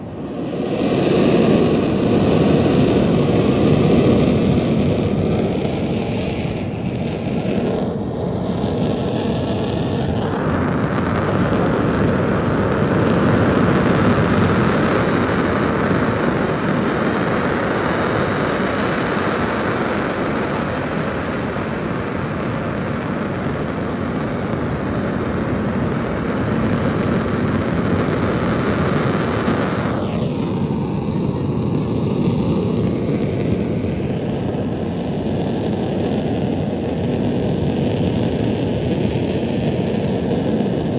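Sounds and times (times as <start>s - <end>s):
volcano vent gas rushing: 0.0s - 40.9s.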